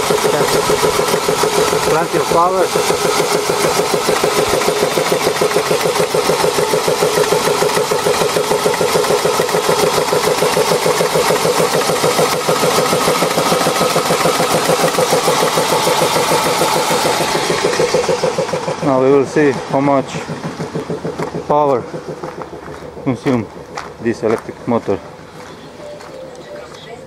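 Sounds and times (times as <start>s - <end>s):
air compressor chugging: 0.0s - 26.0s.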